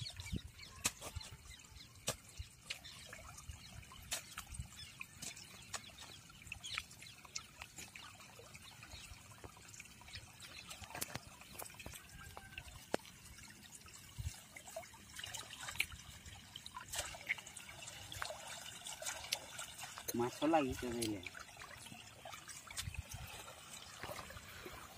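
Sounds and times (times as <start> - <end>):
shallow water trickling: 0.0 - 24.9.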